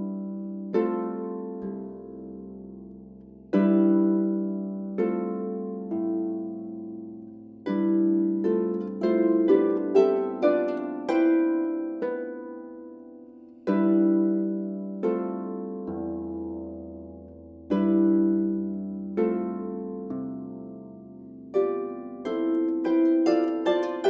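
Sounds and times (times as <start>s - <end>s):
slow harp piece: 0.0s - 24.0s.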